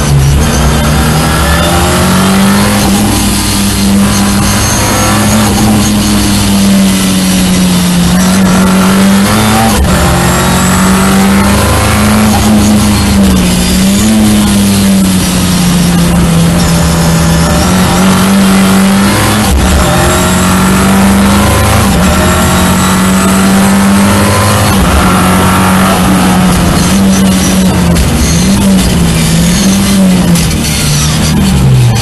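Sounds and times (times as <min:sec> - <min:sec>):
car engine at high revs: 0:00.0 - 0:32.0
road and wind noise: 0:00.0 - 0:32.0.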